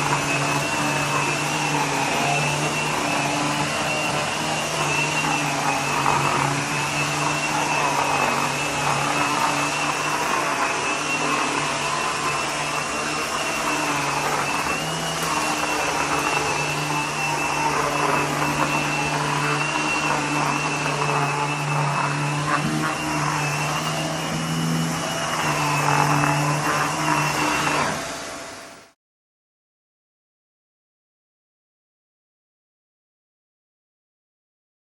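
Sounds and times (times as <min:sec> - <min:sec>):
vacuum rushing over mat: 0:00.0 - 0:28.5
vacuum cleaner running: 0:00.0 - 0:29.0.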